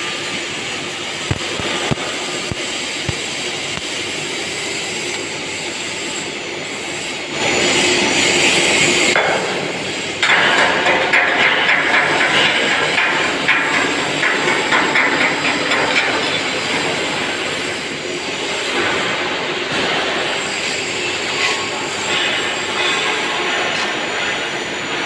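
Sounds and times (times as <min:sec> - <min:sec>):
welding arc crackling and hissing: 0:00.0 - 0:10.1, 0:12.2 - 0:25.0.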